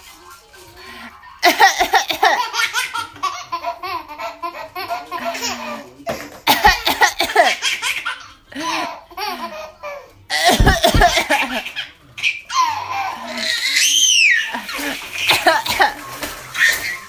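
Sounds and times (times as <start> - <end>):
babies laughing: 0.9 - 17.0.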